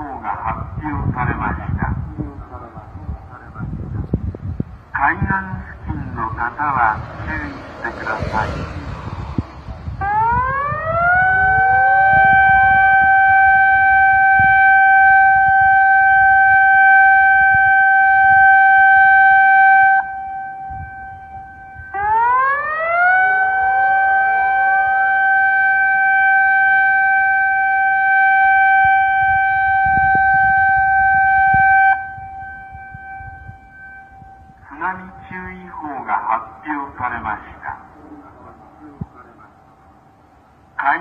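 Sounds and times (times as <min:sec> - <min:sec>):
warning siren wailing: 0:04.9 - 0:41.0.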